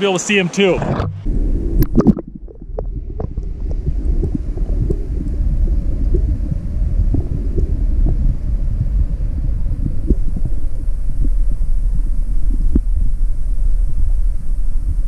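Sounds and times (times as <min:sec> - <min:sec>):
underwater stream rumble: 0:00.6 - 0:15.0.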